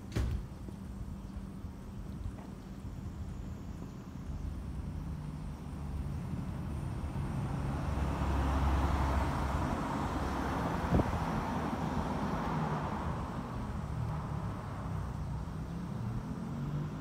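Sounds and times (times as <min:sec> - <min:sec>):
low engine hum: 0:00.0 - 0:17.0
vehicle sound: 0:01.3 - 0:17.0.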